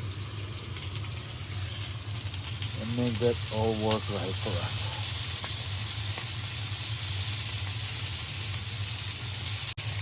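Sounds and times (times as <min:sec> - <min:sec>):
lobster sizzling in pan: 0:00.0 - 0:10.0.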